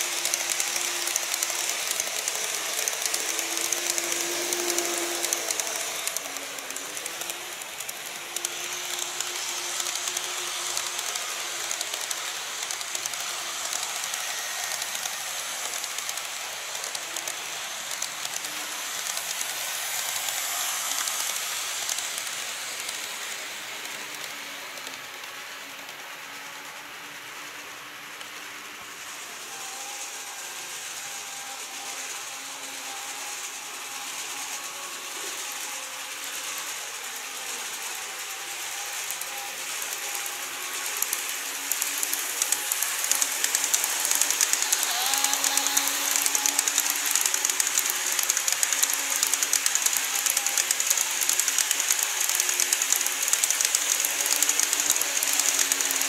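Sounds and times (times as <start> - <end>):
model train motor whine: 0.0 - 56.0
wheels clicking on rails: 0.0 - 56.0.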